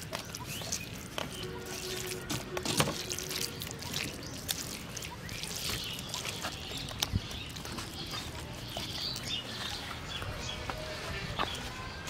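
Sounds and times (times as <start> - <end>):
wet grains squelching: 0.0 - 10.4.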